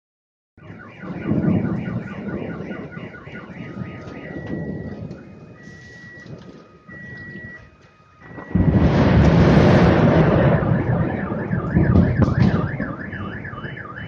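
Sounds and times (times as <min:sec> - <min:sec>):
car alarm warbling: 0:00.6 - 0:14.0
rolling thunder: 0:00.6 - 0:14.0.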